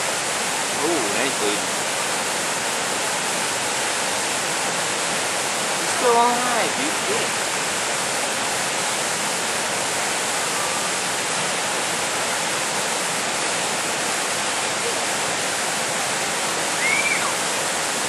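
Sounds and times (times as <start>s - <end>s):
falling water roar: 0.0s - 18.0s.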